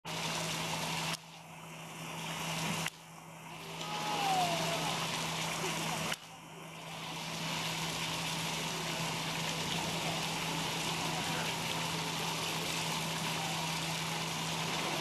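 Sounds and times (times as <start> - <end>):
constant low hum: 0.1 - 15.0.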